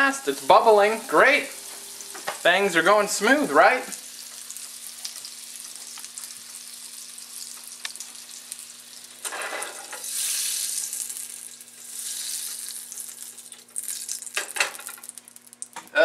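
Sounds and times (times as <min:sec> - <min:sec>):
butter sizzling in a frying pan: 0:00.0 - 0:15.8.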